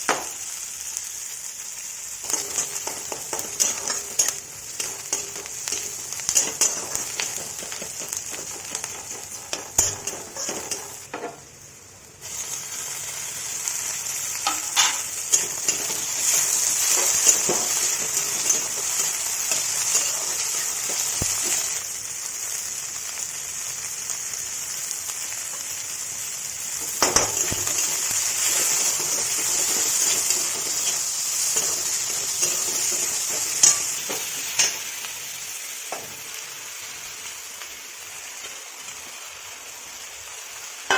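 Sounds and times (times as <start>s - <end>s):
leaves sizzling in a pan: 0.0s - 40.9s.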